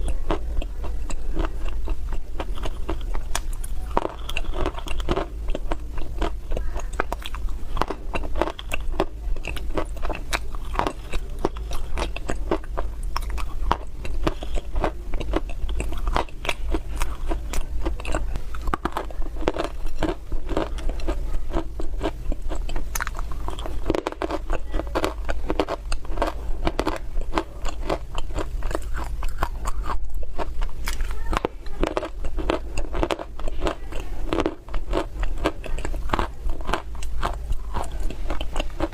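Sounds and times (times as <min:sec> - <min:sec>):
chewing crunchy dry clay: 0:00.0 - 0:38.9.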